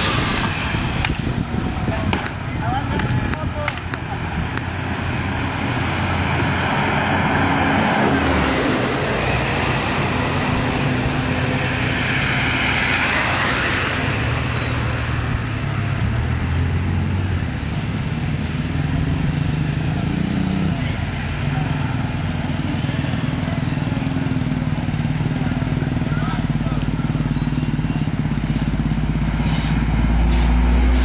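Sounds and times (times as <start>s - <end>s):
motorcycle engine: 0.0s - 31.0s
slow vehicle engines: 0.0s - 31.0s.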